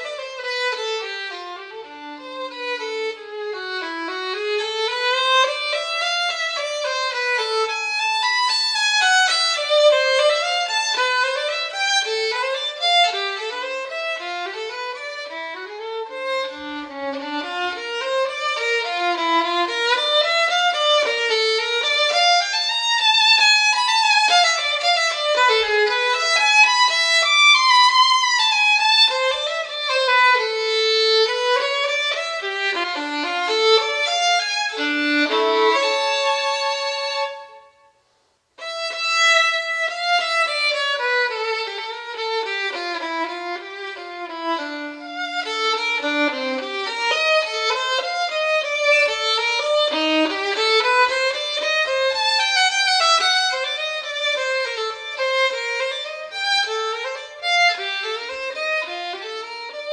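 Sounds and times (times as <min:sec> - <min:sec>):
violin playing fast runs: 0:00.0 - 0:37.6, 0:38.6 - 0:59.9.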